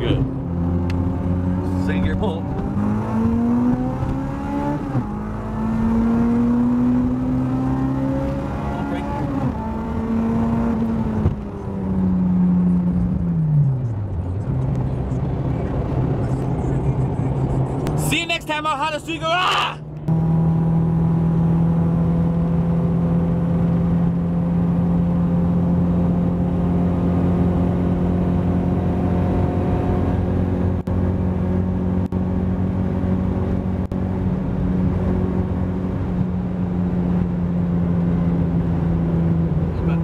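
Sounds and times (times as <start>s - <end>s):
car engine running from inside cabin: 0.0s - 40.0s.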